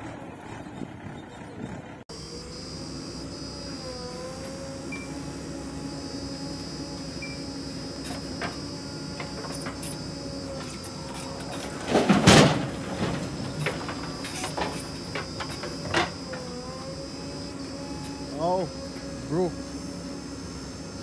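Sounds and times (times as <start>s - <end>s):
diesel engine under hydraulic load: 0.0s - 21.0s.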